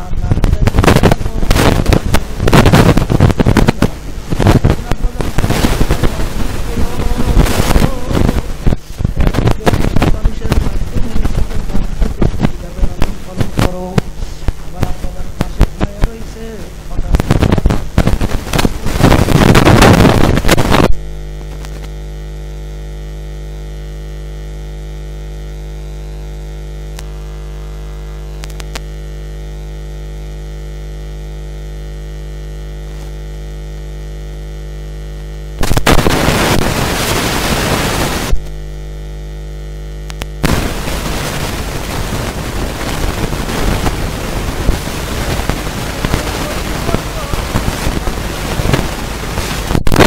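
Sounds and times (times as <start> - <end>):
electrical mains hum: 0.0 - 50.0
static hiss: 0.0 - 50.0.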